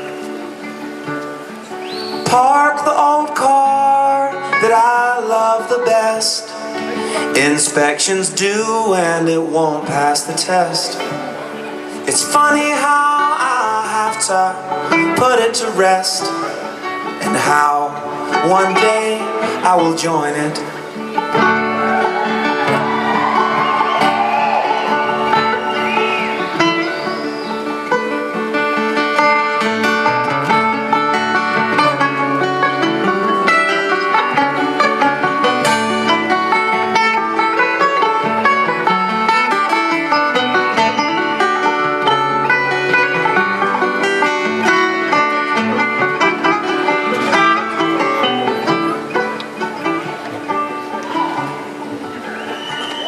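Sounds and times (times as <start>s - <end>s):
acoustic guitar picking: 0.0s - 53.0s
banjo picking: 0.0s - 53.0s.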